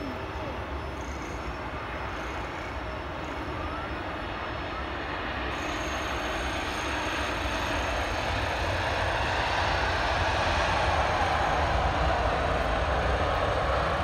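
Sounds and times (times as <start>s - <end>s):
airliner engines rushing: 0.0s - 14.0s.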